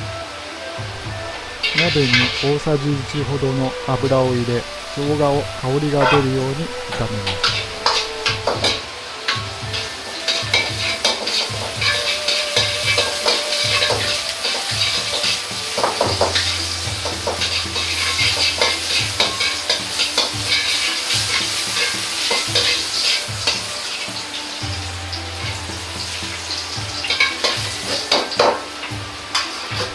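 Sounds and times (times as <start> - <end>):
ginger sizzling in oil: 0.0 - 29.9
metal ladle scraping wok: 0.9 - 29.9.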